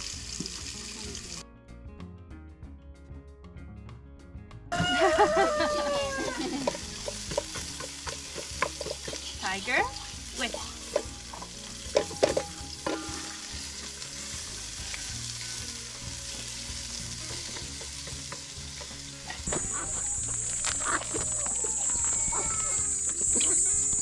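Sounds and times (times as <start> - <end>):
chicken sizzling in a pot: 0.0 - 1.4, 4.7 - 24.0.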